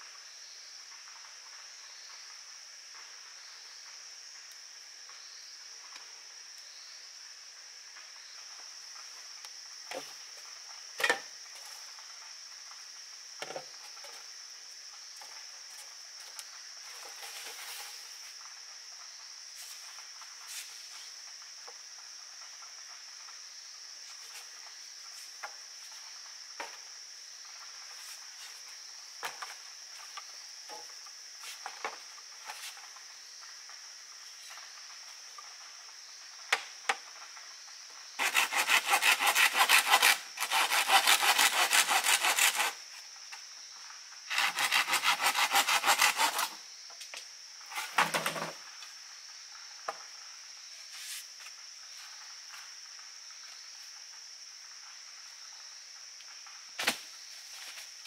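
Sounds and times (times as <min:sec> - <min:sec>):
insect chorus: 0:00.0 - 0:58.0.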